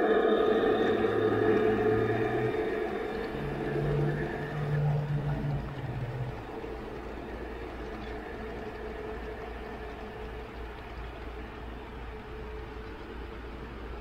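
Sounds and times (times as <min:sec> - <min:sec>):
model train motor hum: 0:00.6 - 0:14.0.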